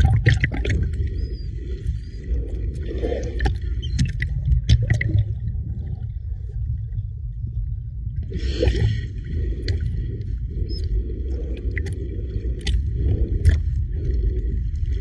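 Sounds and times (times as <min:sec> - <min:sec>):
water sloshing and gurgling: 0:00.0 - 0:15.0.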